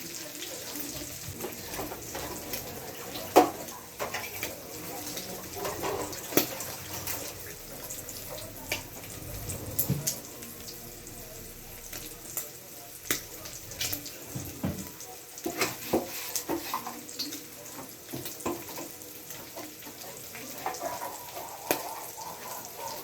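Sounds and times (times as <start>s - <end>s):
tap water running into sink: 0.7s - 22.7s.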